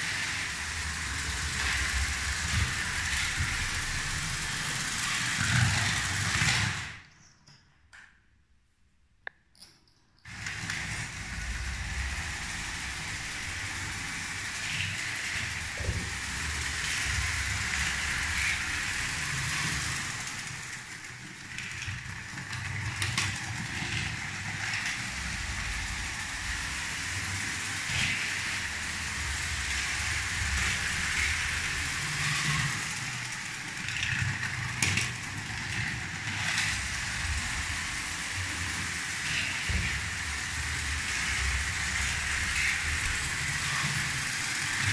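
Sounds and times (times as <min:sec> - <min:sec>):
toy train motor and wheel rattle: 0:00.0 - 0:08.1, 0:09.5 - 0:44.9.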